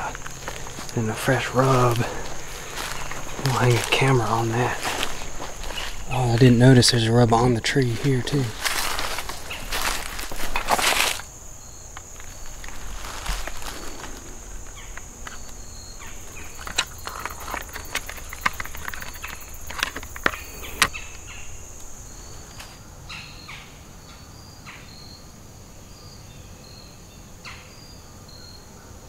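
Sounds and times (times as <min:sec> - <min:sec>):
insect chirps: 0:00.0 - 0:29.0
insects droning: 0:00.0 - 0:29.0.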